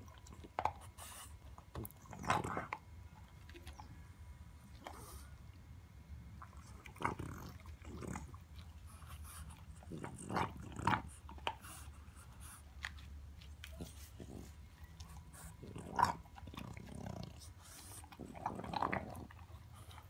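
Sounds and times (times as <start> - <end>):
puppy chewing bone: 0.0 - 20.0.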